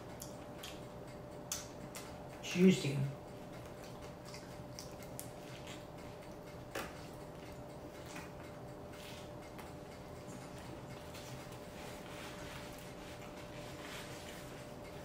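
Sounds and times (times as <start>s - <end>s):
person chewing: 0.0s - 2.3s, 3.4s - 15.0s
faint steady hum: 0.0s - 15.0s.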